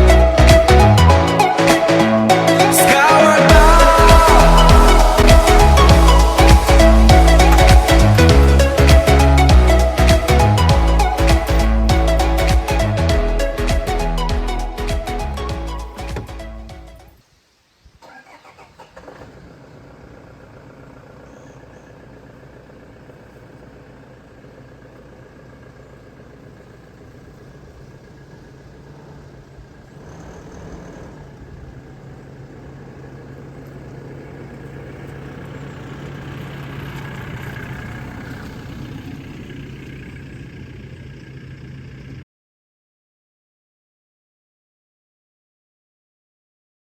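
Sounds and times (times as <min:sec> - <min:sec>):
diesel engine idling: 0:00.0 - 0:17.0, 0:18.4 - 0:42.2.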